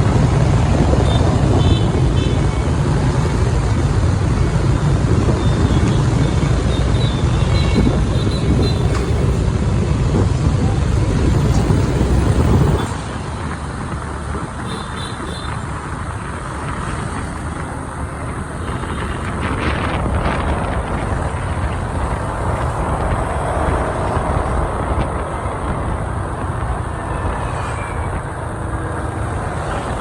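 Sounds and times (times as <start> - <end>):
city traffic: 0.0 - 30.0.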